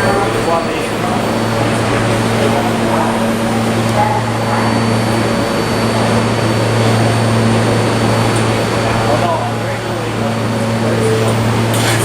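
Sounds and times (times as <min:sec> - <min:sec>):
subway train humming and rushing: 0:00.0 - 0:12.0.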